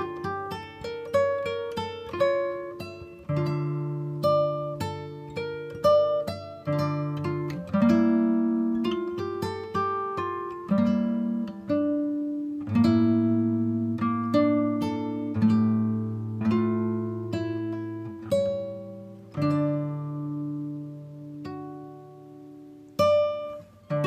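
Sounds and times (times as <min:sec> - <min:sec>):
acoustic guitar piece: 0:00.0 - 0:24.0.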